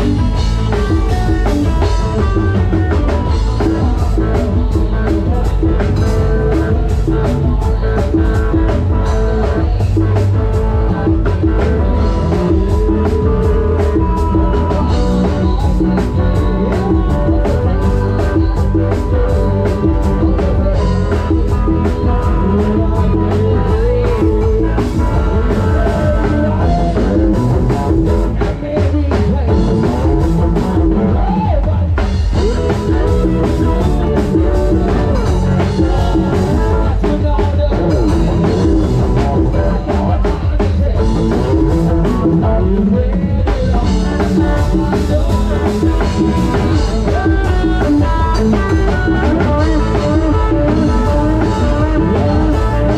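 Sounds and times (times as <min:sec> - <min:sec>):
loud live band music: 0:00.0 - 0:52.9
person singing: 0:00.0 - 0:52.9.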